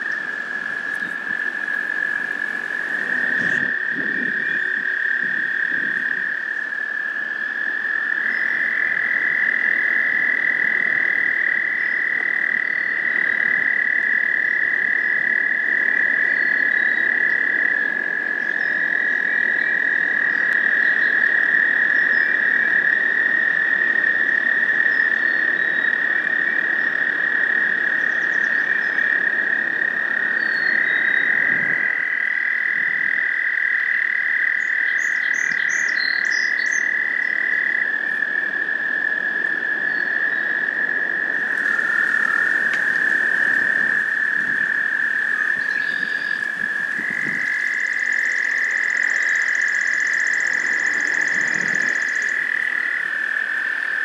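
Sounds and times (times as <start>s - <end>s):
toads trilling: 0.0s - 54.0s.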